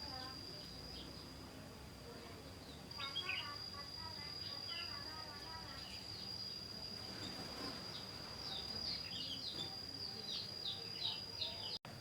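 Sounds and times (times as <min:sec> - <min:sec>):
small birds chirping: 0:00.0 - 0:11.8
steady high-pitched whine: 0:00.0 - 0:12.0.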